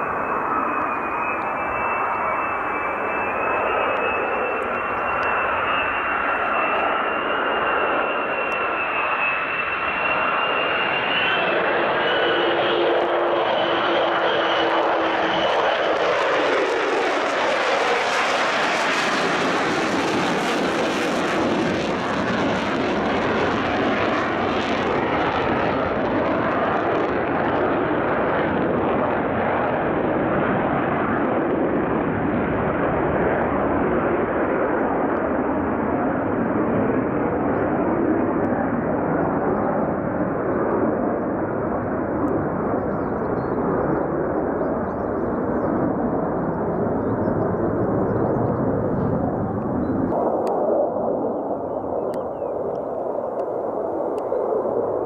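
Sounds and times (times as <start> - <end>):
fighter jet engine: 0.0 - 55.0.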